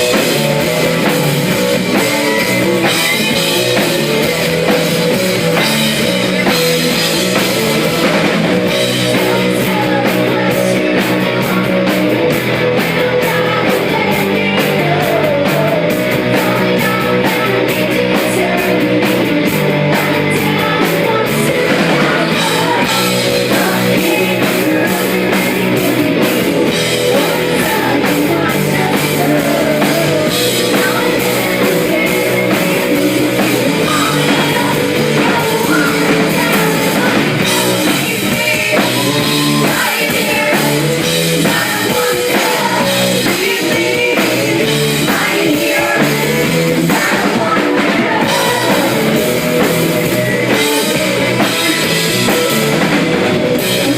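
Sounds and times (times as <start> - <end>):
distorted electric guitars: 0.0 - 53.9
drum kit: 0.0 - 53.9.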